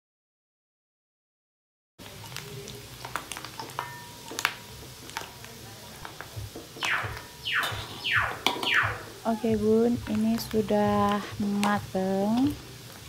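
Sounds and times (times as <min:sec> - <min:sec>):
dough deep-frying in hot oil: 0:02.0 - 0:13.0
oil popping and crackling: 0:02.0 - 0:13.0.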